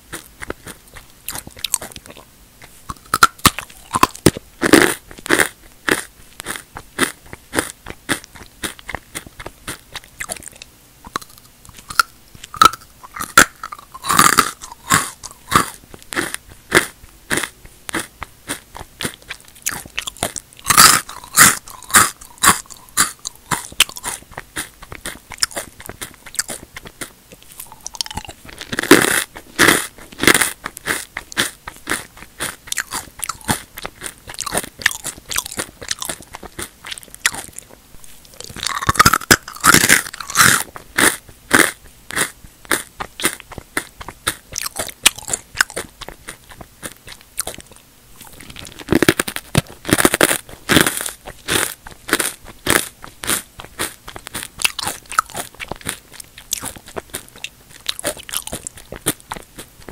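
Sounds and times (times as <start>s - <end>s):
crunching chews: 0.0s - 59.9s
crisp chips being bitten: 0.1s - 59.9s.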